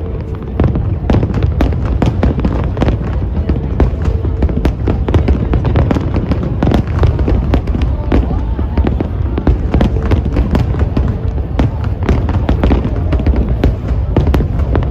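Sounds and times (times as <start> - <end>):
fireworks bursting: 0.0 - 14.9
fireworks crackle: 0.0 - 14.9.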